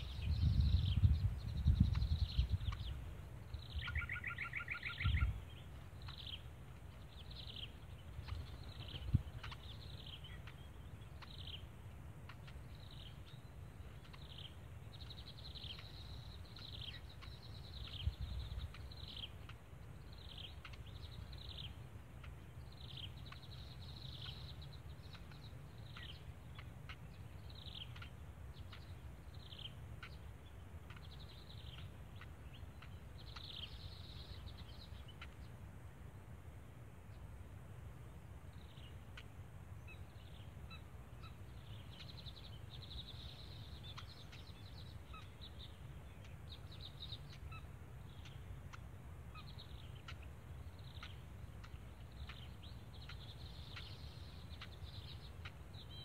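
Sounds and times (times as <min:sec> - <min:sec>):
birds chirping: 0:00.0 - 0:56.0
low steady rumble: 0:00.0 - 0:56.0.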